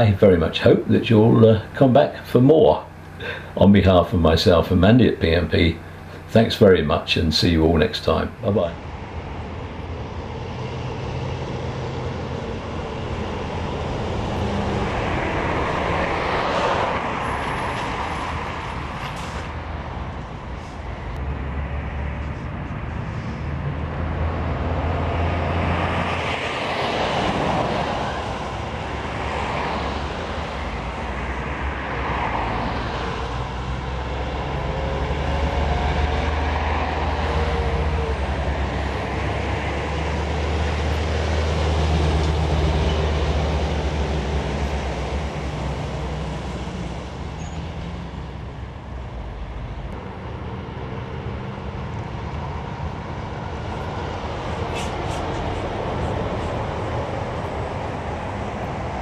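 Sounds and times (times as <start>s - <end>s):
lorry engine drone: 0.0s - 59.0s
tyre and road noise: 0.0s - 59.0s.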